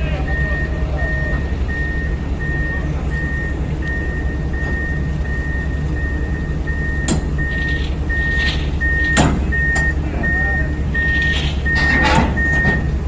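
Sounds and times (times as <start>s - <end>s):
backup alarm beeping: 0.0s - 13.0s
diesel engine running: 0.0s - 13.0s.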